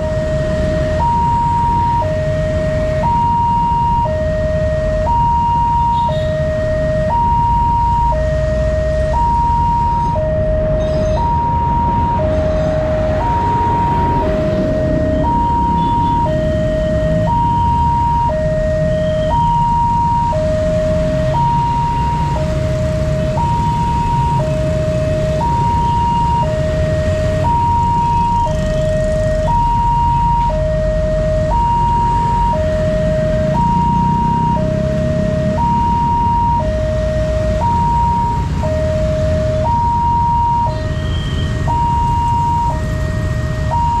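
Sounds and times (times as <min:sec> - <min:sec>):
low rumble of engines: 0:00.0 - 0:44.0
two-tone level-crossing alarm: 0:00.0 - 0:44.0.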